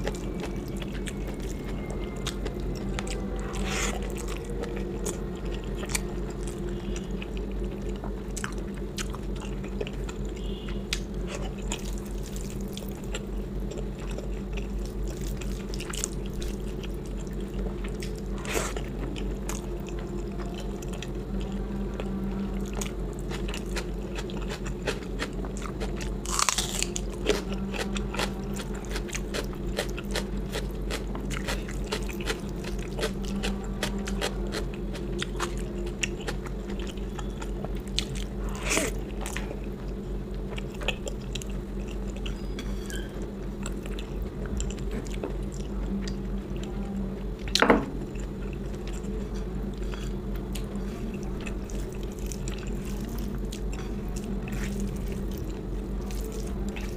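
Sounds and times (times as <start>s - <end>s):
person chewing food: 0.0s - 56.9s
steady low hum: 0.0s - 56.9s.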